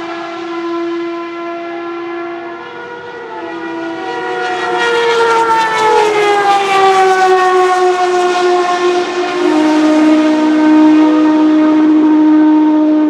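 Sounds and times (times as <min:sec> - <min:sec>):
race car engine passing: 0:00.0 - 0:13.0.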